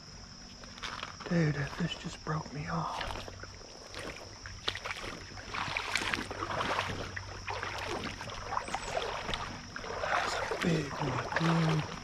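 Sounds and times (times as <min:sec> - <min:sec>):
creek water splashing: 0:00.0 - 0:12.0.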